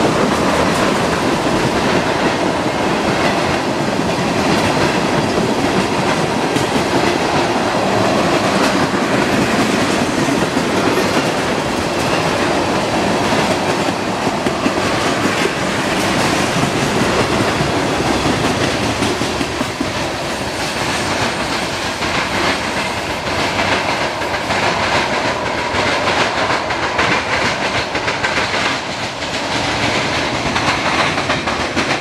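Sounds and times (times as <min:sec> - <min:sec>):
train rumbling: 0:00.0 - 0:32.0
wheels clacking over rail joints: 0:00.0 - 0:32.0.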